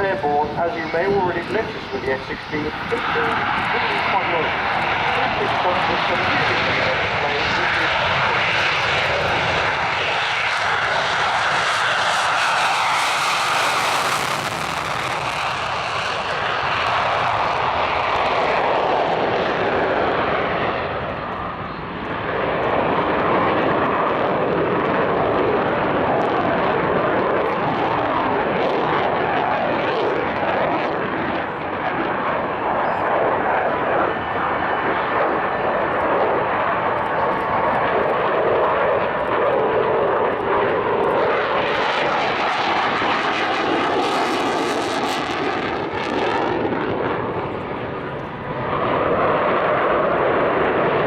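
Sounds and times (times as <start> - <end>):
jet engine roaring: 0.0 - 51.0.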